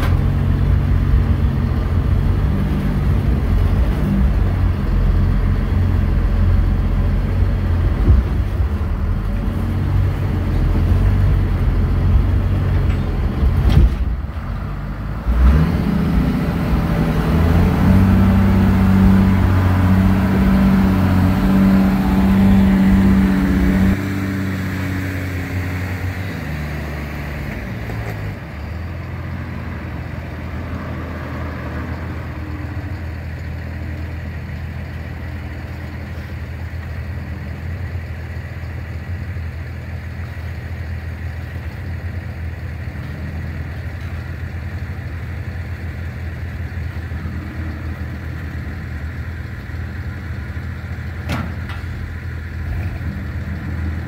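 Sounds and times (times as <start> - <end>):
truck engine running low revs: 0.0 - 54.0.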